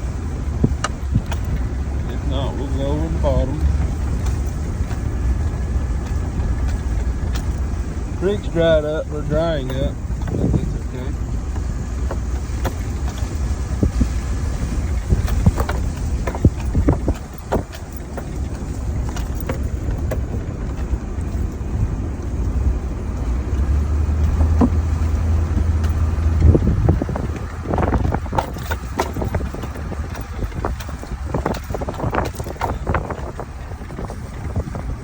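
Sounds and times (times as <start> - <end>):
truck engine droning: 0.0 - 35.0
truck knocks and rattles: 0.0 - 35.0.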